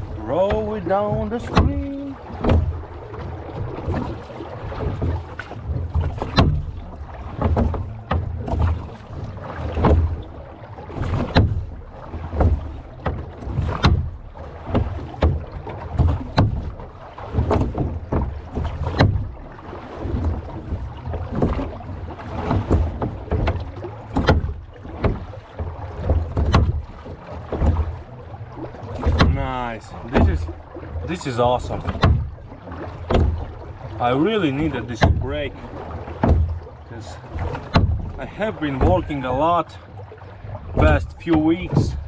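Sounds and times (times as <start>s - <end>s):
low rumble of water: 0.0s - 42.0s
oar splashing: 0.0s - 42.0s
oarlocks knocking: 0.4s - 4.0s, 4.8s - 19.4s, 22.4s - 39.5s.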